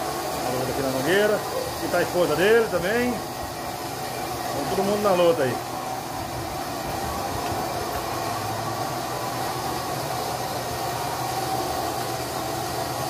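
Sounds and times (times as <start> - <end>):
milking machine drone and hiss: 0.0 - 13.0.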